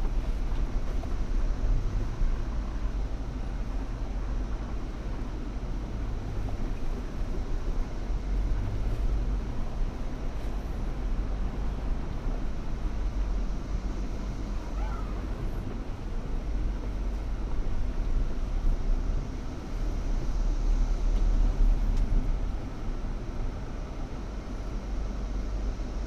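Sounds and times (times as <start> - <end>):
off-road vehicle engine rumble: 0.0 - 26.0.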